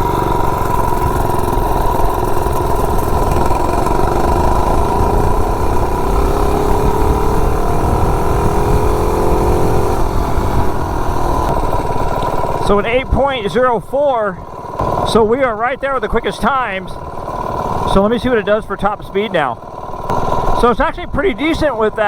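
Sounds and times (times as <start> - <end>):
mini bike engine accelerating: 0.0 - 22.0.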